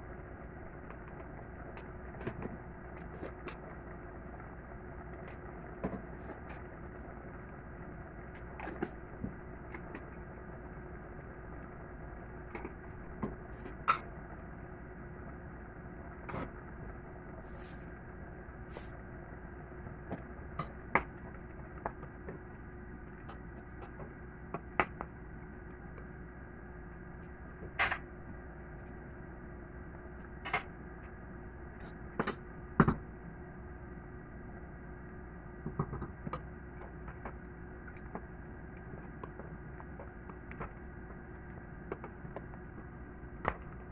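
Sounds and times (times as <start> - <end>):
steady background hum: 0.0 - 43.9.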